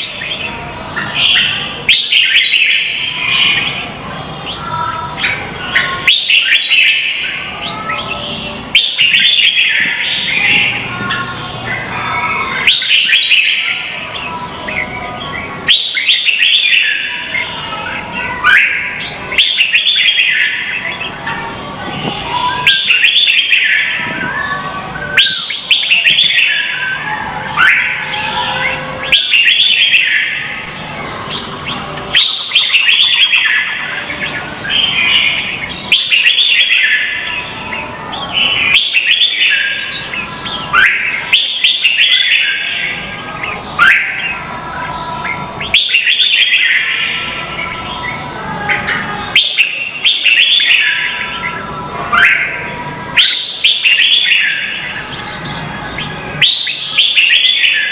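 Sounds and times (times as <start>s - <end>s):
bulbuls singing whistled phrases: 0.0s - 57.9s.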